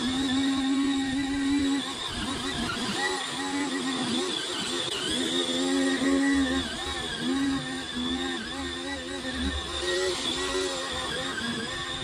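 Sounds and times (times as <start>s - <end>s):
weed trimmer high whine: 0.0s - 12.0s.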